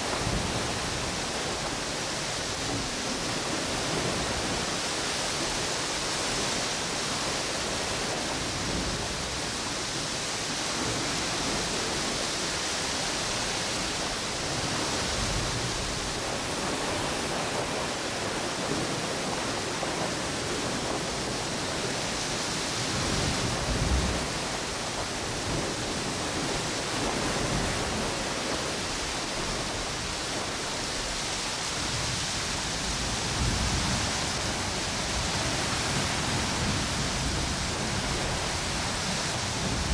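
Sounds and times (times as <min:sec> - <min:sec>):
ocean waves washing on beach: 0:00.0 - 0:39.9
strong wind through palm trees: 0:00.0 - 0:39.9.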